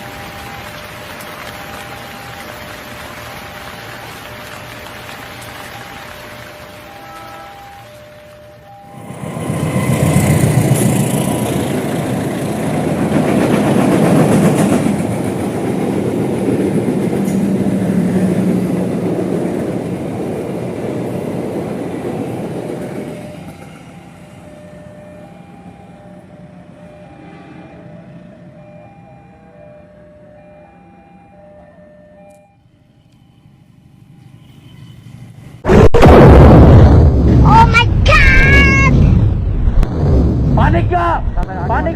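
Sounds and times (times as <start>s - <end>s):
train passing close: 0.0s - 41.9s.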